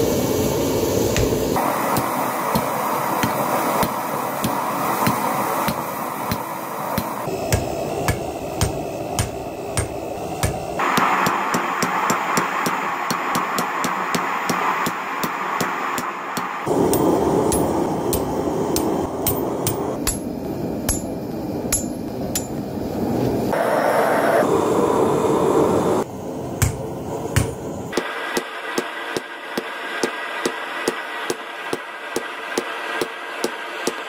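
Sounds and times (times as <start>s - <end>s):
steady rushing noise: 0.0s - 28.0s
hammer striking steel on anvil: 1.1s - 22.6s, 26.6s - 34.0s.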